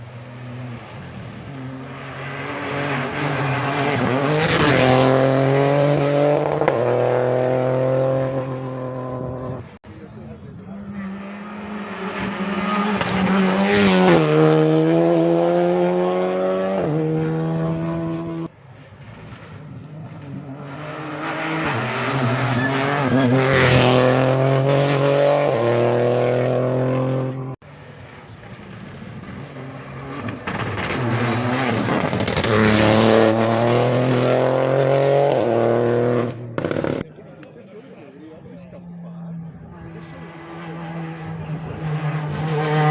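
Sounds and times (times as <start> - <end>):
rally cars passing at full throttle: 0.0 - 42.9.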